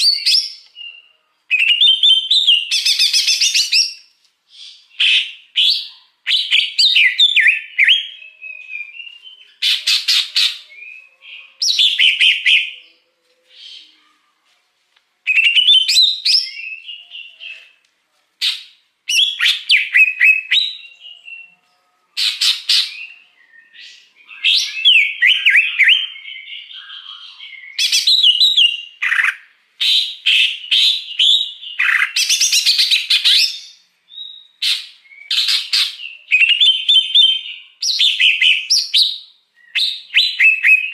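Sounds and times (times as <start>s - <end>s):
bird singing chirps and whistles: 0.0s - 14.0s, 15.3s - 17.8s, 18.4s - 40.9s.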